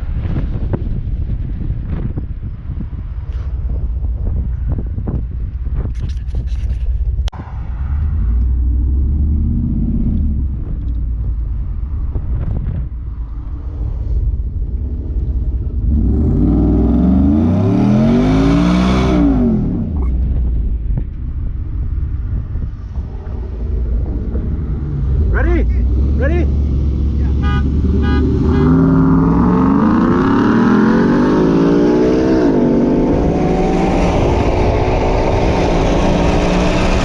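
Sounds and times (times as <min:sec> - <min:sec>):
pickup engine idling and revving: 0:00.0 - 0:37.0.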